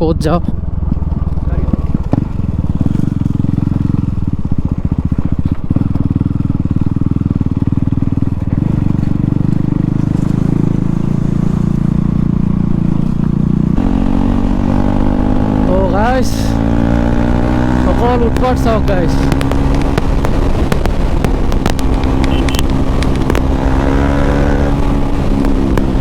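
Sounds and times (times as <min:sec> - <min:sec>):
loud motorcycle engine pulsing: 0:00.0 - 0:26.0.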